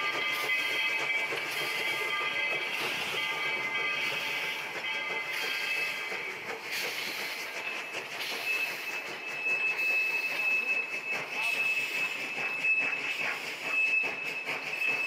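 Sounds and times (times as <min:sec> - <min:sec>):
train coaches rolling past: 0:00.0 - 0:15.0
high-pitched wheel squeal: 0:00.1 - 0:15.0.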